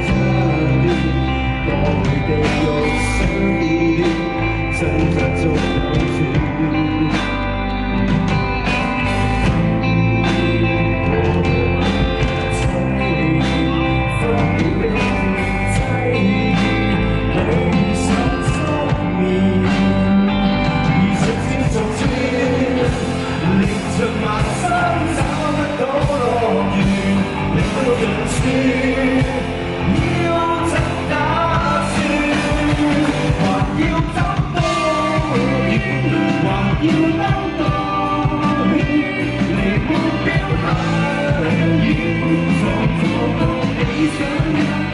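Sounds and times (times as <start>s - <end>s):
bass guitar: 0.0s - 44.9s
drums: 0.0s - 44.9s
electric guitar: 0.0s - 44.9s.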